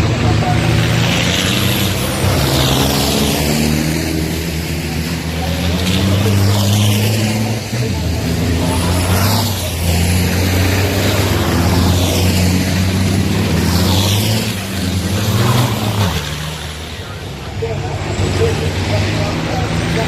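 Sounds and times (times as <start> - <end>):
diesel truck engines droning: 0.0 - 20.0.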